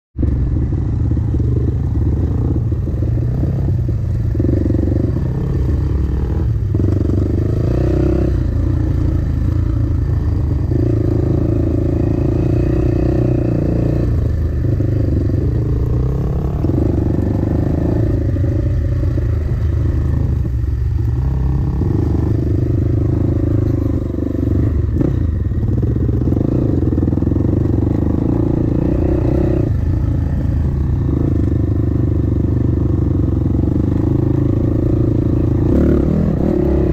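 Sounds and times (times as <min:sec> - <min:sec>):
dirt bike engine running: 0:00.2 - 0:36.9.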